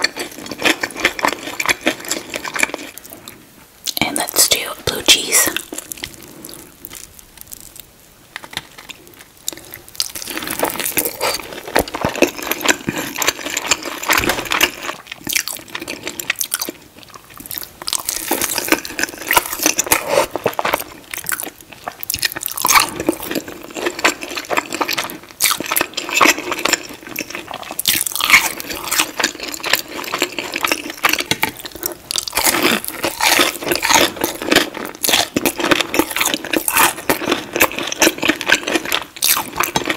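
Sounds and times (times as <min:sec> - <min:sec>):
crunchy bites and wet chewing: 0:00.0 - 0:03.3, 0:05.6 - 0:39.9.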